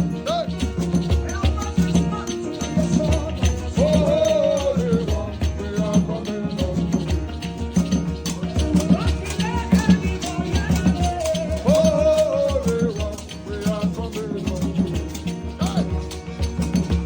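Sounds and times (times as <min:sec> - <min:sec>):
gospel band playing: 0:00.0 - 0:17.0.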